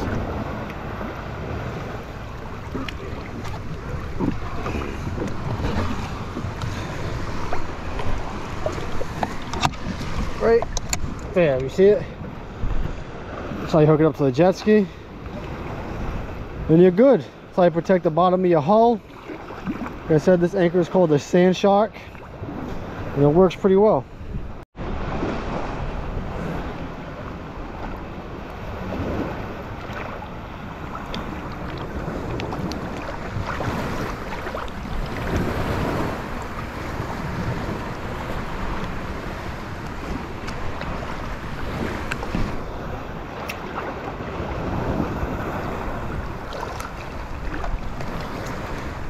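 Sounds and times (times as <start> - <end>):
wind on microphone: 0.0 - 13.7, 22.2 - 49.0
small waves lapping: 0.0 - 49.0.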